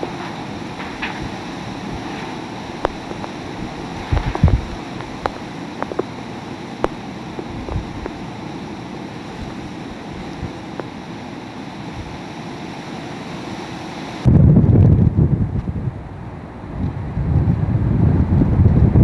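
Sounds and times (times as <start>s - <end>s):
wind buffeting microphone: 0.0s - 11.0s, 14.2s - 19.0s
heavy rain: 0.0s - 19.0s
strong wind: 0.0s - 19.0s.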